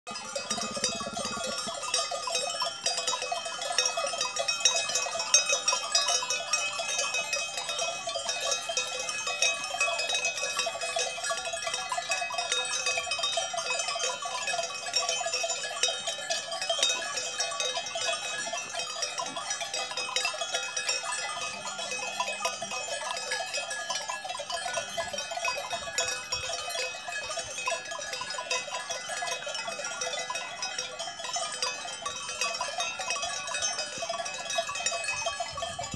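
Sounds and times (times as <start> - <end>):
cowbells clanking: 0.1 - 35.9.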